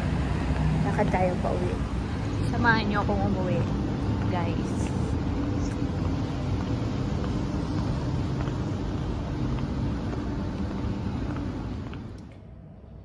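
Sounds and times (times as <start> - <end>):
city street background hum: 0.0 - 13.0.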